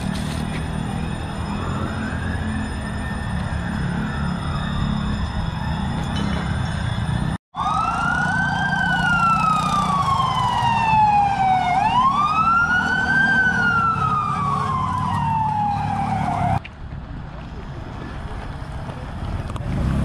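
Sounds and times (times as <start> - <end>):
ambulance siren wailing: 0.0 - 16.6
low road rumble: 0.0 - 20.0.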